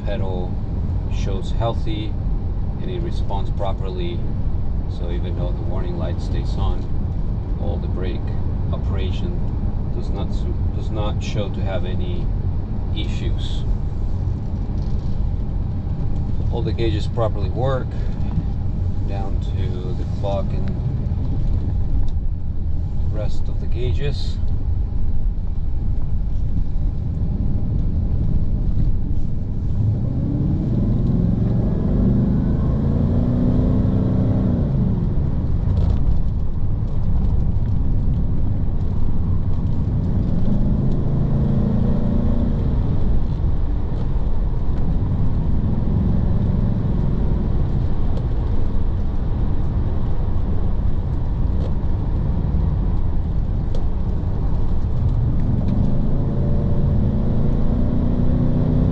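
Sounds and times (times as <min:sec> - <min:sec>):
car engine from inside cabin: 0:00.0 - 0:58.9.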